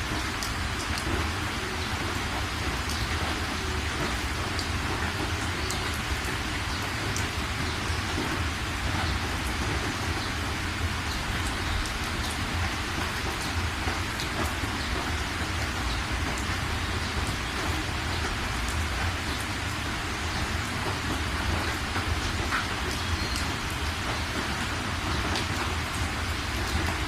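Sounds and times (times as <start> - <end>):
drips ticking: 0.0 - 27.0
steady rain falling: 0.0 - 27.0.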